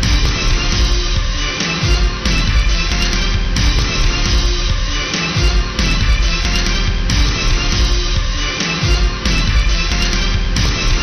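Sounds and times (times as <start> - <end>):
music with heavy bass: 0.0 - 11.0.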